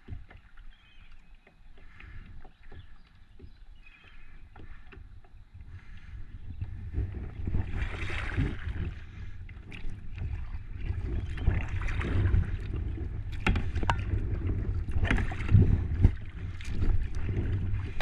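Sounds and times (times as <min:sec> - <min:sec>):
kayak paddle splashing water: 0:00.0 - 0:18.0
wind rumble on microphone: 0:02.0 - 0:18.0.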